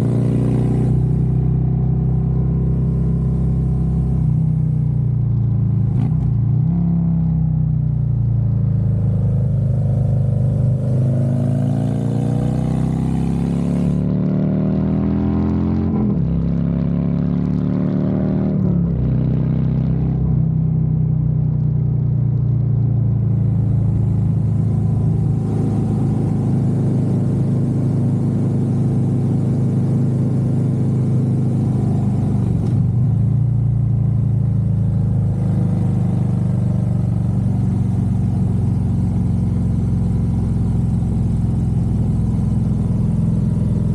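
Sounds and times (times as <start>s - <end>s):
motorcycle engine accelerating: 0.0s - 21.4s, 22.3s - 43.9s.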